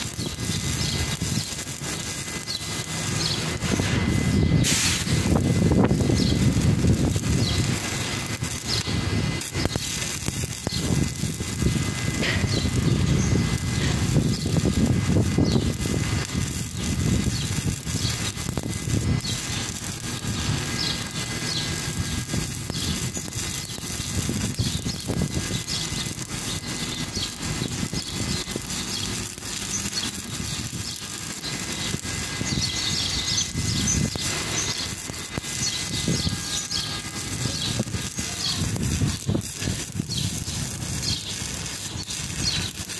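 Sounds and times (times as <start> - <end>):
welding arc crackling: 0.0 - 42.9.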